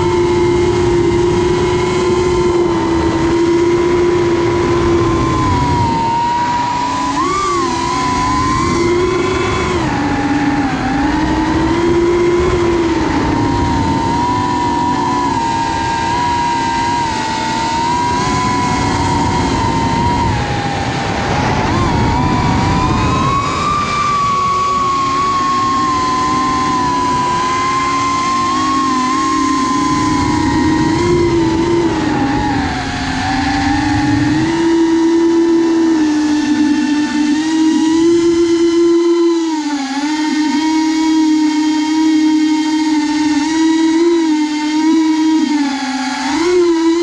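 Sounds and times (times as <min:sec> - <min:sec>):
drone motors whining: 0:00.0 - 0:47.0
wind rumble on microphone: 0:00.0 - 0:47.0.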